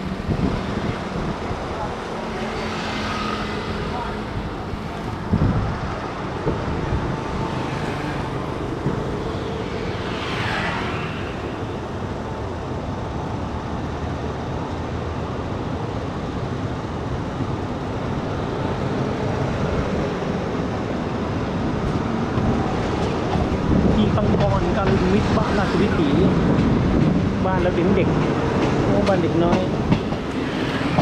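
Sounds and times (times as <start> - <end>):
train rumbling on track: 0.0 - 31.0.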